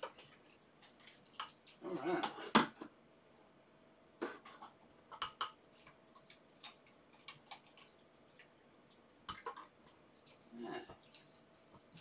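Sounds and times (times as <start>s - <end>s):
small parts clicking and tapping: 0.0s - 2.3s, 4.4s - 12.0s.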